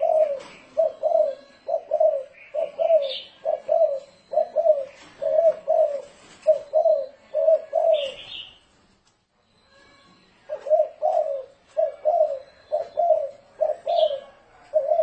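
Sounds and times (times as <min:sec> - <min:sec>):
dove cooing: 0:00.0 - 0:08.6, 0:09.6 - 0:15.0.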